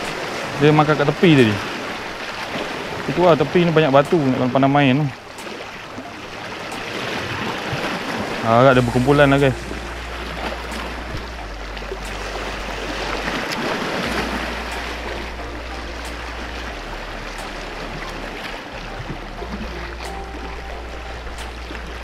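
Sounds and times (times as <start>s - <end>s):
waves splashing against rocks: 0.0s - 22.0s.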